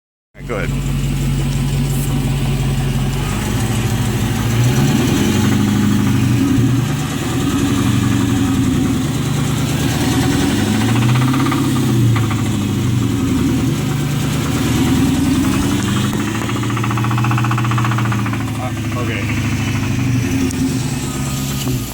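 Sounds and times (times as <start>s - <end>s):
car engine revving: 0.4s - 21.9s
engine knocking: 0.4s - 21.9s.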